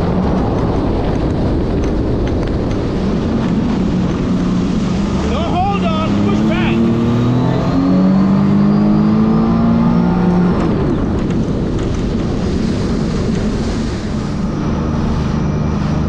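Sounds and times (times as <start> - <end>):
jet ski engine running: 0.0 - 16.0
rush of water and wind: 0.0 - 16.0.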